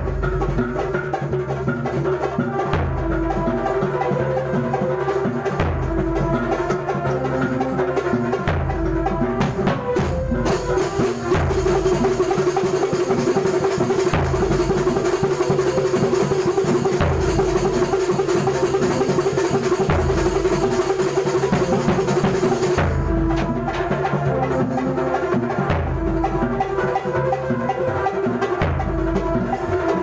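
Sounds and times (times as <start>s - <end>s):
drums and hand percussion: 0.0s - 30.0s.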